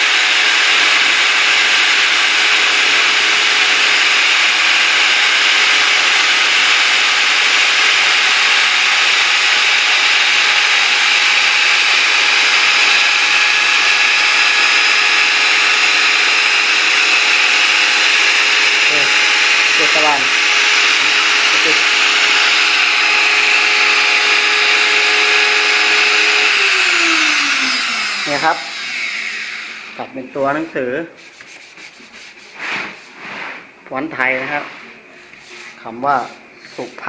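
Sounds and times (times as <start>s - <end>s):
cnc router milling: 0.0s - 30.2s.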